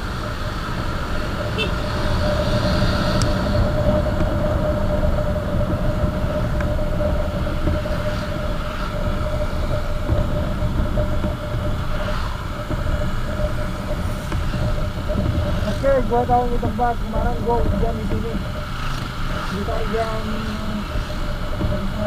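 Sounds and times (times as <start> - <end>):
motorcycle engine hum: 0.0 - 22.0
wind and road rumble: 0.0 - 22.0.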